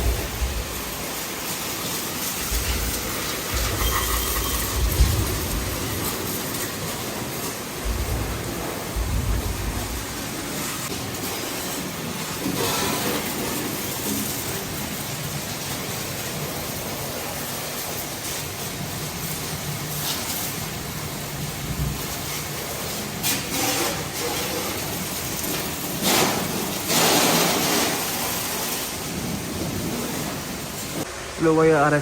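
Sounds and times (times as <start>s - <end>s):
water spraying: 0.0s - 32.0s.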